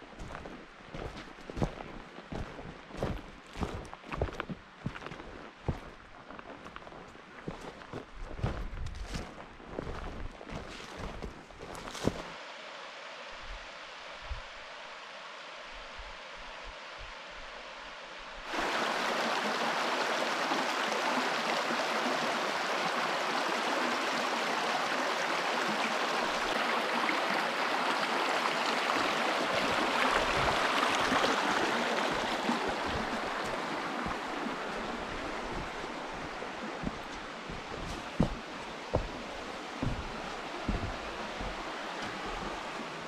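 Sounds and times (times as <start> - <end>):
running water rushing: 0.0 - 43.0.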